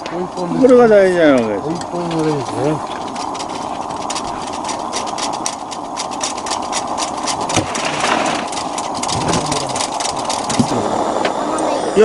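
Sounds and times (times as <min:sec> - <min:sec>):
lantern burning with a hiss: 0:00.0 - 0:12.0
sharp crackles: 0:00.0 - 0:12.0.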